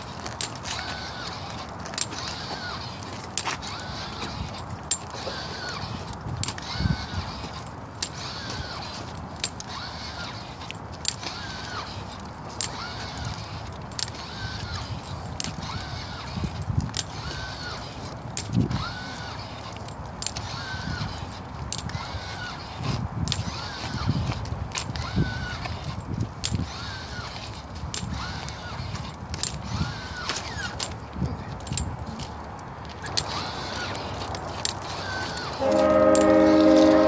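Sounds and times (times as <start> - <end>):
electric motors whining: 0.0 - 37.0.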